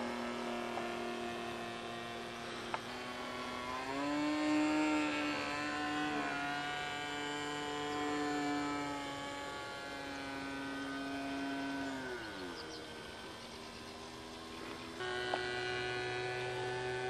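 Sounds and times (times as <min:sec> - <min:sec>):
model plane engine: 0:00.0 - 0:17.0.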